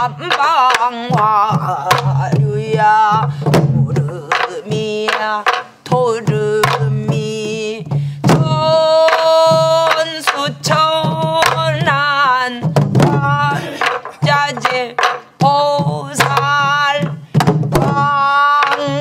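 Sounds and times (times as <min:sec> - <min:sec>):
woman singing with vibrato: 0:00.0 - 0:19.0.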